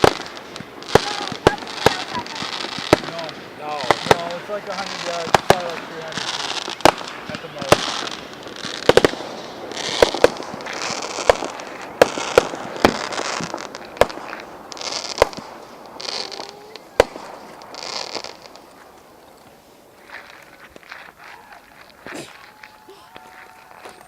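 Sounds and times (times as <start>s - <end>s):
crackling hiss of fireworks: 0.0s - 24.0s
fireworks bangs: 0.0s - 24.0s.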